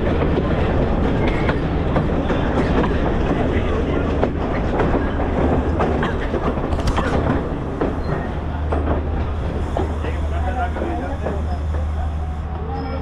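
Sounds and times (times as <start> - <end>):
wheels clacking over rail joints: 0.0 - 12.2
train running gear rumble: 0.0 - 13.0.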